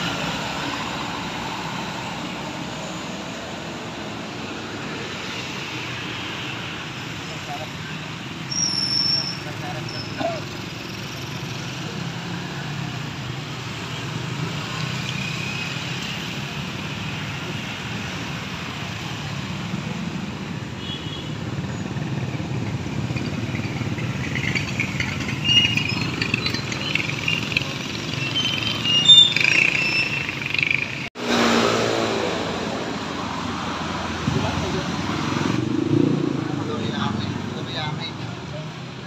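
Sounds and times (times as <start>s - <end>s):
motorcycles and cars passing: 0.0s - 8.5s, 9.2s - 39.0s.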